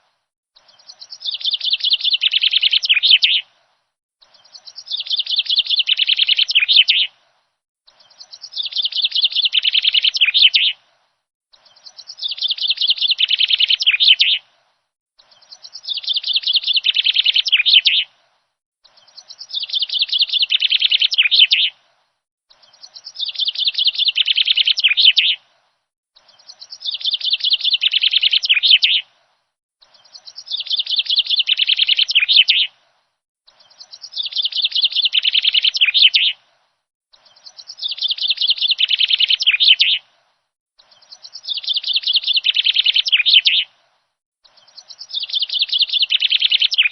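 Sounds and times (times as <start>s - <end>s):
songbird chirping: 0.0s - 46.9s.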